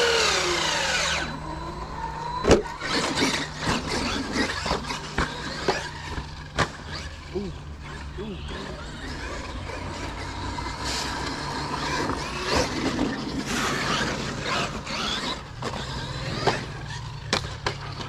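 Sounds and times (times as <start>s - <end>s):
electric motor whining: 0.0s - 18.0s.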